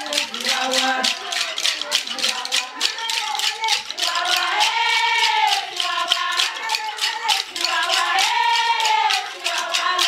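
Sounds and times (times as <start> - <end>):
hand claps: 0.0 - 10.0
rattling percussion: 0.0 - 10.0
women singing together: 0.0 - 10.0.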